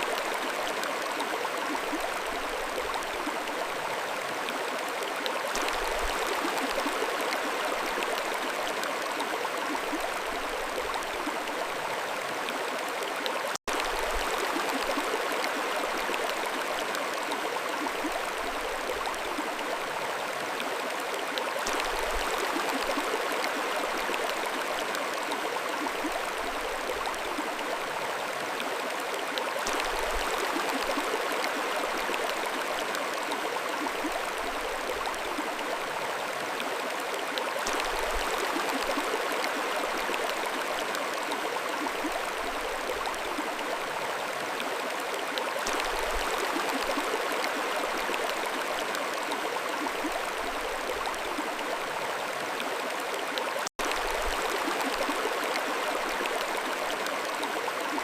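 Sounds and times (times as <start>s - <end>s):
mountain stream flowing over stones: 0.0s - 58.0s.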